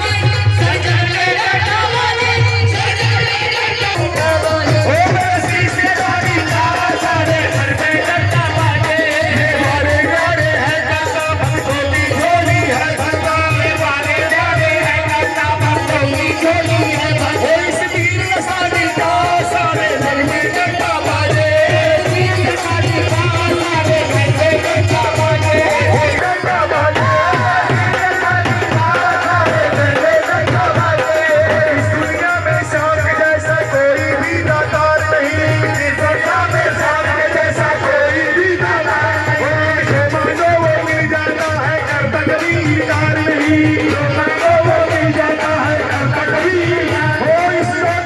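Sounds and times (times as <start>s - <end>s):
jingling rattle percussion: 0.0s - 48.0s
steady drum beat: 0.0s - 48.0s.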